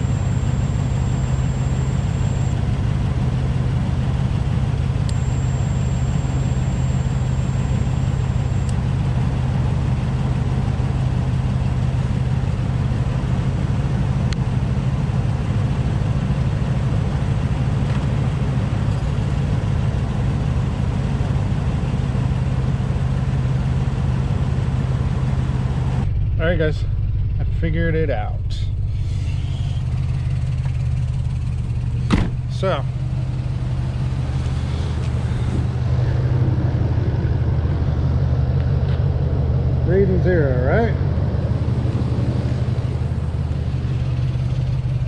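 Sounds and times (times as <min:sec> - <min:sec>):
truck engine idling: 0:00.0 - 0:45.0.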